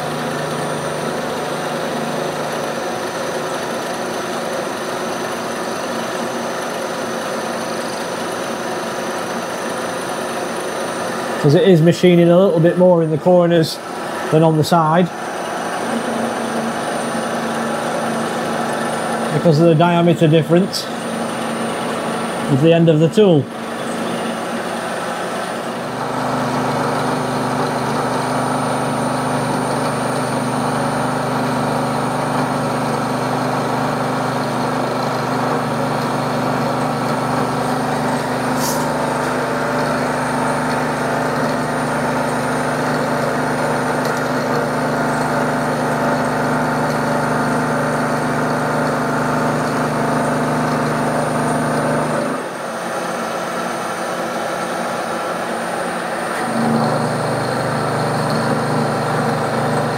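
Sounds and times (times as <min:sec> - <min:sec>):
milling machine hum and whine: 0:00.0 - 0:59.9.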